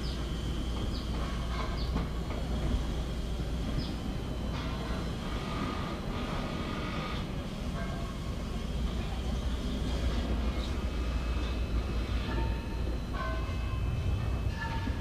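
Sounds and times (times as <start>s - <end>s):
heavy machine low rumble: 0.0s - 15.0s.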